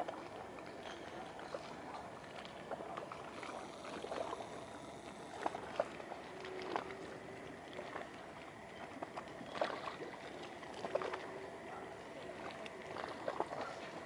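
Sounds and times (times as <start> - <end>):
seawater lapping: 0.0 - 14.0
small splashes and clicks: 0.0 - 14.0.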